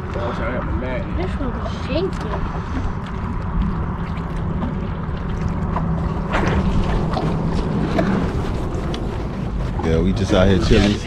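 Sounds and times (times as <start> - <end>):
steady low rumble: 0.0 - 11.0
water sloshing against boat hull: 0.0 - 11.0.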